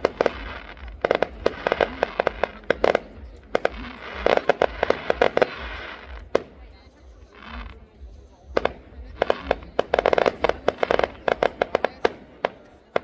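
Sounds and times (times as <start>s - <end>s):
firework bangs and crackles: 0.0s - 13.0s.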